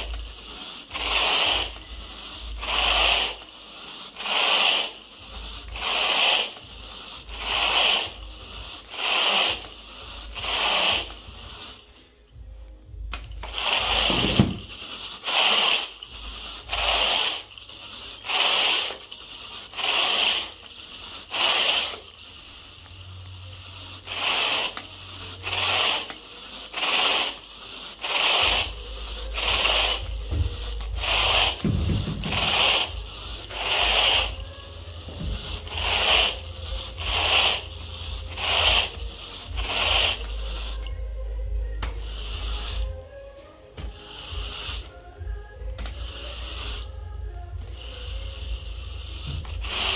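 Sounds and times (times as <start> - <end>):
rake rubbing through carpet: 0.0 - 49.9.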